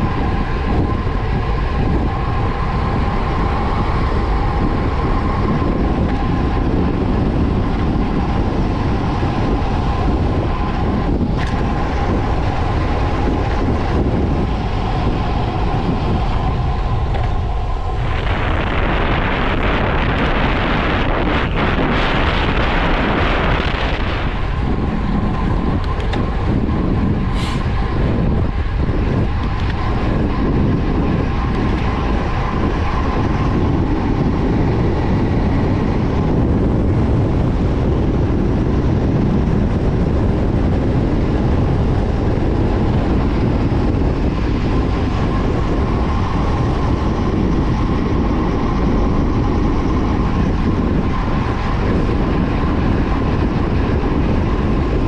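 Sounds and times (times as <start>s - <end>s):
bike tyres on asphalt: 0.0s - 55.0s
wind buffeting microphone: 0.0s - 55.0s.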